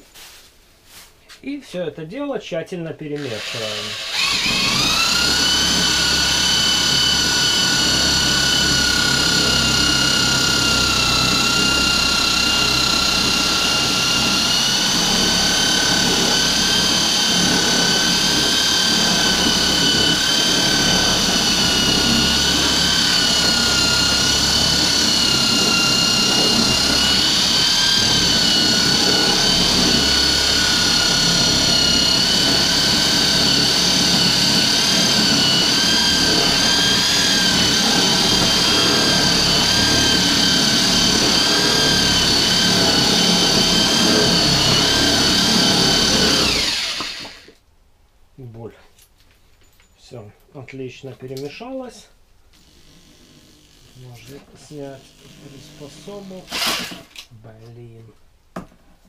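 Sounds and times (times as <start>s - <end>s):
electric drill motor whine: 3.2s - 47.6s, 52.5s - 57.3s.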